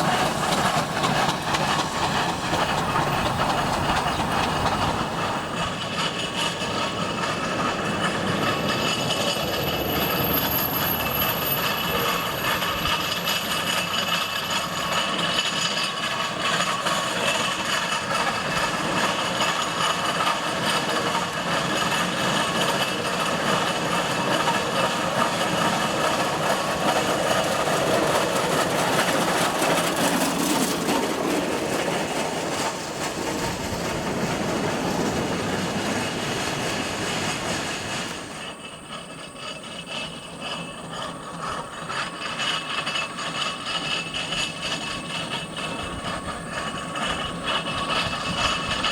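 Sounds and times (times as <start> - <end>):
steam traction engine running: 0.0 - 48.9.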